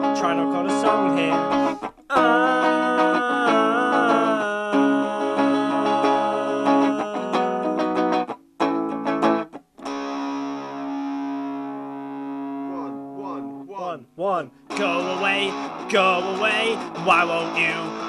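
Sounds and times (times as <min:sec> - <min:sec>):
plucked guitar playing: 0:00.0 - 0:13.8, 0:14.5 - 0:18.0.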